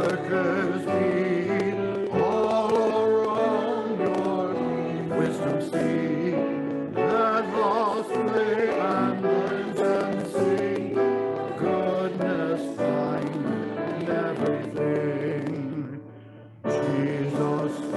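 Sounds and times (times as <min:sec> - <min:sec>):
voices singing a hymn: 0:00.0 - 0:16.0, 0:16.7 - 0:17.9.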